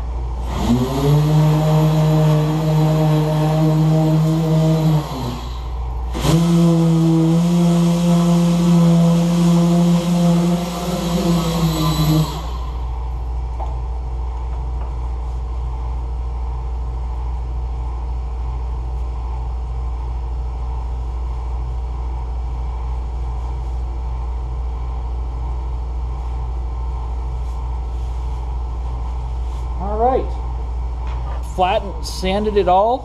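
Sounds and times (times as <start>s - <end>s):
air compressor running: 0.0s - 33.0s.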